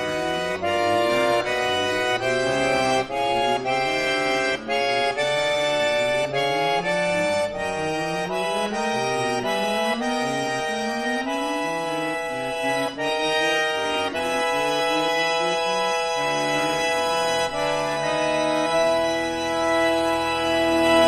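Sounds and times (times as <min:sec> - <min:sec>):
button accordion playing chords: 0:00.0 - 0:21.0.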